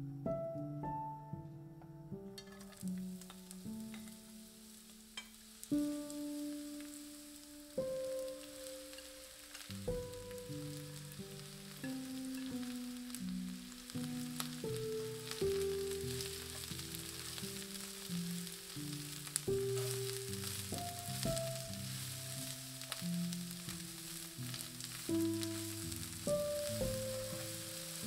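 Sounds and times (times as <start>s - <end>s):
background music of held notes: 0.0s - 4.9s, 5.6s - 28.0s
vegetables sizzling in oil: 2.4s - 28.0s.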